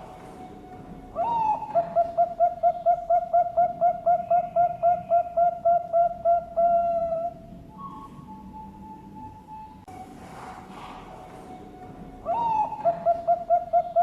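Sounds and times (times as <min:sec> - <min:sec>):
dove cooing: 0:00.0 - 0:08.7, 0:10.3 - 0:14.0.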